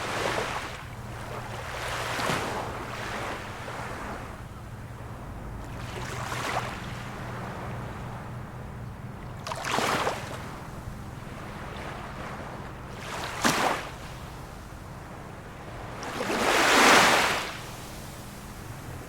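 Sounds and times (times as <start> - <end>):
low rush of water: 0.0 - 19.0
waves splashing on shore: 0.0 - 19.0.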